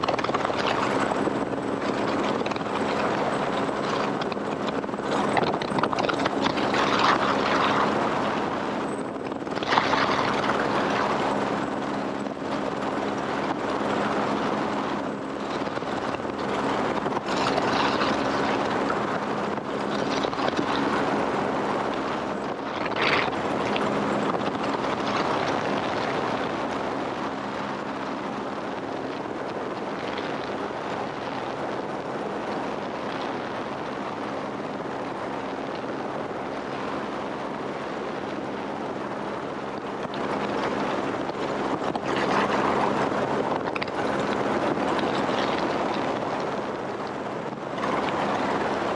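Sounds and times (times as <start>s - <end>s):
helicopter engine and rotor hum: 0.0s - 48.9s.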